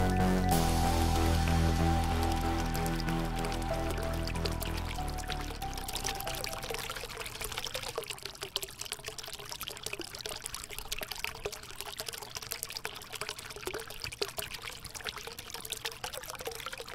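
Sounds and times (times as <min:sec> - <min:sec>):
water trickling and bubbling: 0:00.0 - 0:16.9.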